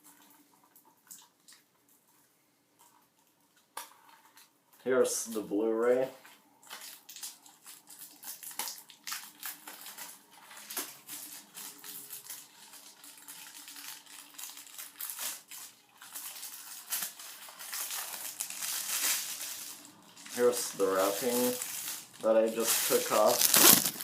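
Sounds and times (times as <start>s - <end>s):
plastic wrap crinkling: 2.8s - 24.0s.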